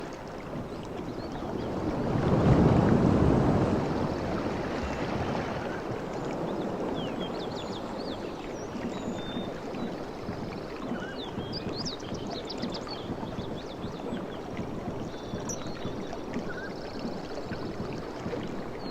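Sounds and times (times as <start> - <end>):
waves washing onto beach: 0.0 - 18.9.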